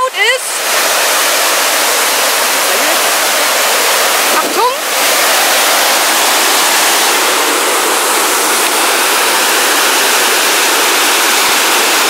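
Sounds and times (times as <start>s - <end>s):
waterfall rushing water: 0.0s - 12.0s.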